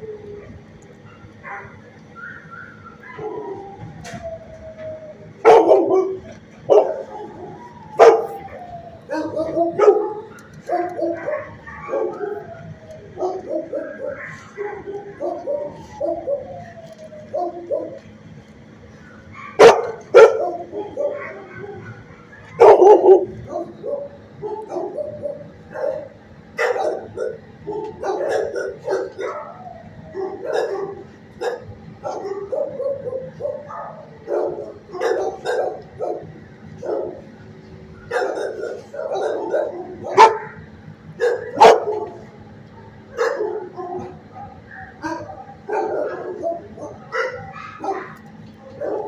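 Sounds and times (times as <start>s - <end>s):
dogs barking: 0.0s - 18.2s, 18.9s - 49.0s
steady low hum: 0.0s - 49.0s.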